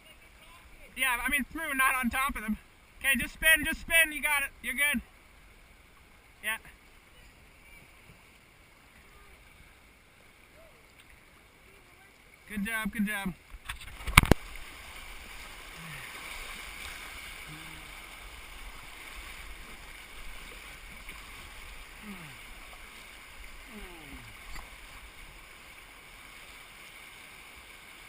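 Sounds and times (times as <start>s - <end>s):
creek water running over rocks: 0.0s - 28.0s.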